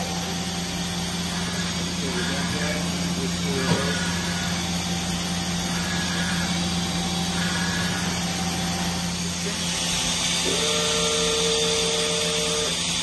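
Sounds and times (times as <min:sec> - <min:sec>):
high steady whine: 0:00.0 - 0:13.0
machine hum: 0:00.0 - 0:13.0.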